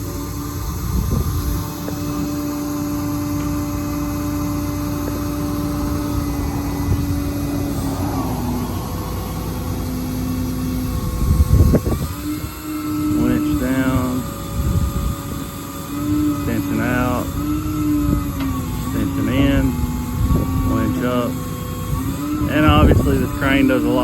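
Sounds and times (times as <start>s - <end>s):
diesel engine idling: 0.0s - 24.0s
hydraulic whine: 0.0s - 24.0s.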